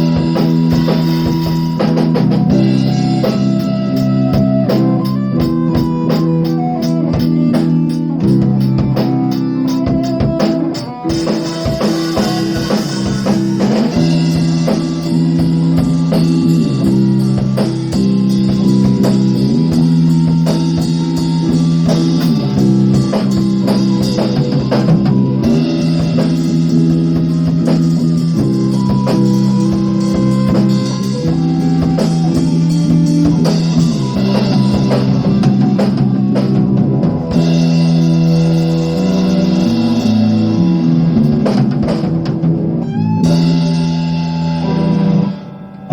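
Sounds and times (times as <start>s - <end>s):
drum kit beat: 0.0s - 45.9s
guitar chords: 0.0s - 45.9s.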